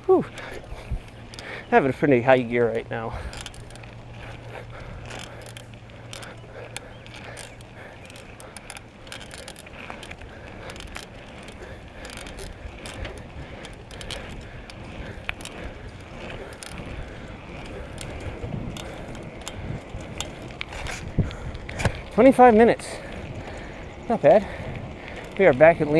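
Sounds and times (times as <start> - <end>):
bicycle freewheel ticking: 0.0 - 25.9.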